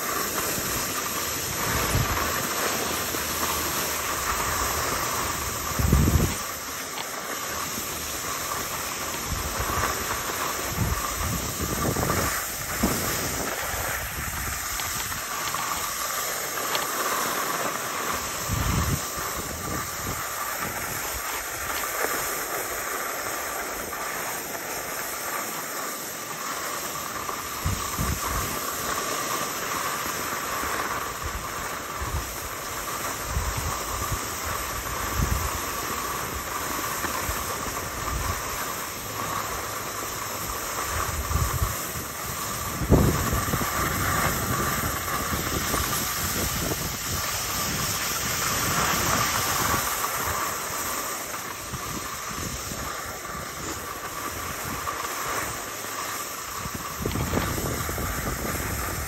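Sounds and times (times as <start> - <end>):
wind rumbling on microphone: 0.0 - 24.0, 27.0 - 59.0
skis scraping over snow: 0.0 - 59.0.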